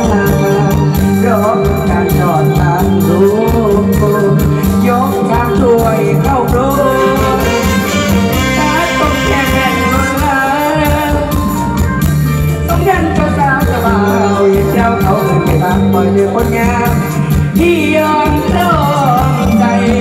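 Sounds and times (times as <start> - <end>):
band music over speakers: 0.0 - 20.0.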